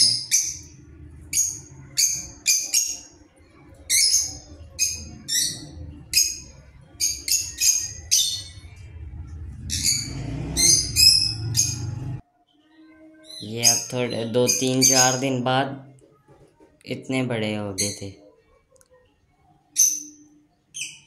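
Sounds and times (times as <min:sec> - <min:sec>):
small birds chirping: 0:00.0 - 0:15.8, 0:16.9 - 0:21.0.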